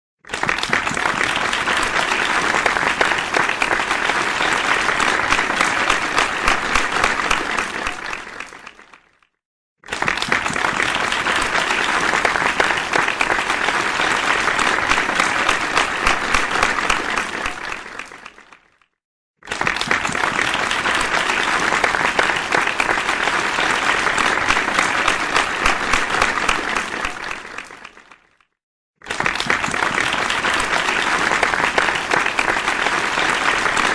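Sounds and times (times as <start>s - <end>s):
crowd applauding: 0.3s - 9.2s, 9.8s - 18.8s, 19.4s - 28.4s, 29.0s - 33.9s.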